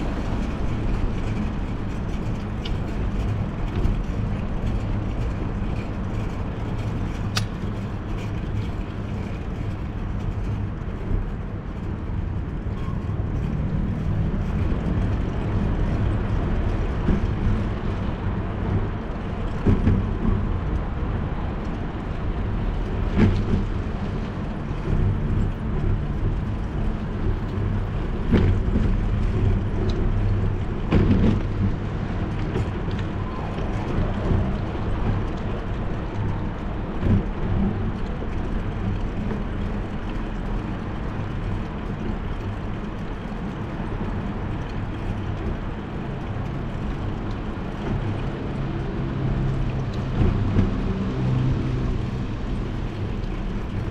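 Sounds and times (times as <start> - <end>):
wind and bicycle road rumble: 0.0 - 53.9.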